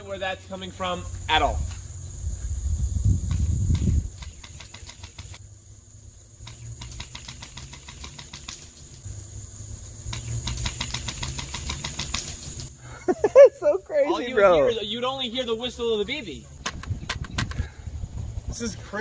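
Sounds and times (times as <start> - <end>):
high insect buzz: 0.0 - 19.0.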